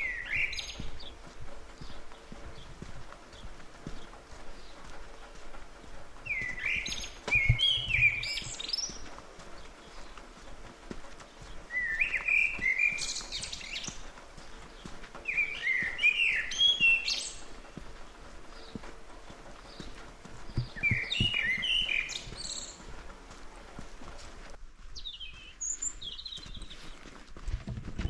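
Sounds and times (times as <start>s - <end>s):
footsteps crunching on forest floor: 0.0s - 28.0s
songbird singing: 0.0s - 28.0s.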